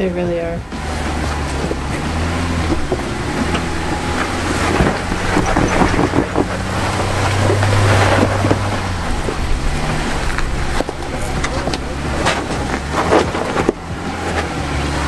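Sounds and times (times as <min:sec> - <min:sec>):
off-road engine under load: 0:00.0 - 0:15.0
tyres crackling on rock: 0:00.6 - 0:15.0.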